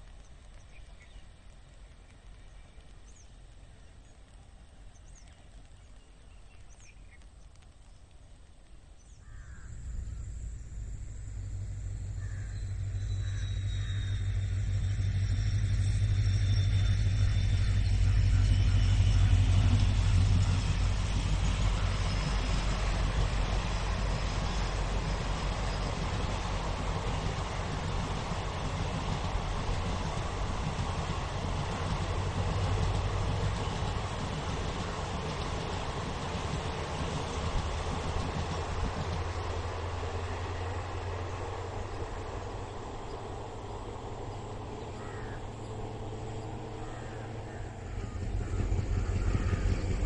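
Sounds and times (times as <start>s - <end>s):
passenger train rumble: 9.1s - 50.0s
faint high whining tones: 9.2s - 50.0s.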